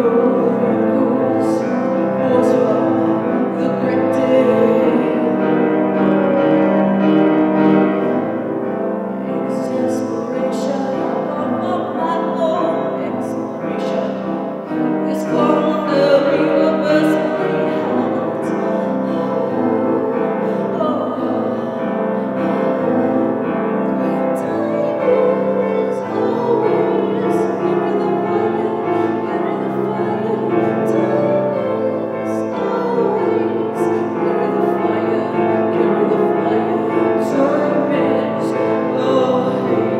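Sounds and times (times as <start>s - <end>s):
woman singing: 0.0s - 8.2s, 8.9s - 39.9s
grand piano: 0.0s - 39.9s.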